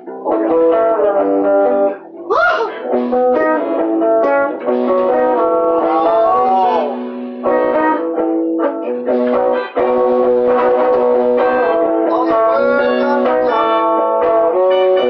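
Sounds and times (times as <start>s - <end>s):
acoustic and electric guitars: 0.0s - 15.0s
keyboard chords: 0.0s - 15.0s.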